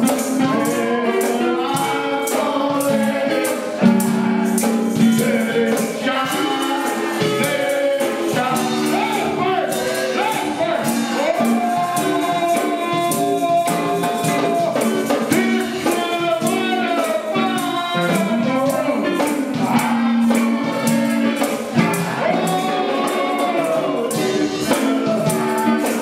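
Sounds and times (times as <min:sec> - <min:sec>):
choir singing gospel: 0:00.0 - 0:26.0
tambourine shaking: 0:00.0 - 0:26.0.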